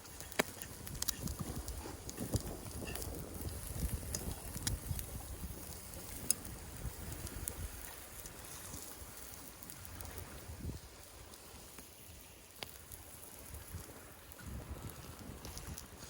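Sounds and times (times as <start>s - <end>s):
wind buffeting microphone: 0.0s - 11.8s, 13.0s - 16.0s.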